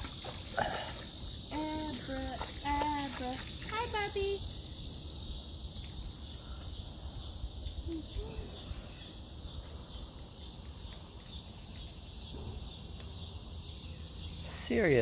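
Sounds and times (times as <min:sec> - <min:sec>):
insect chorus high buzz: 0:00.0 - 0:15.0.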